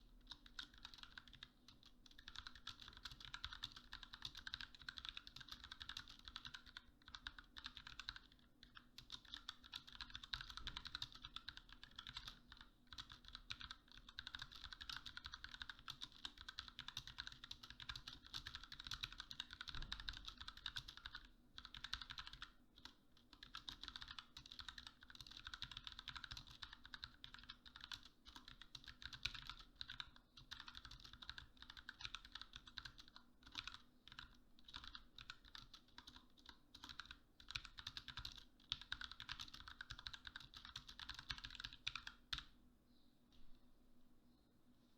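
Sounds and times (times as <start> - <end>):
mechanical keyboard typing: 0.3 - 42.5.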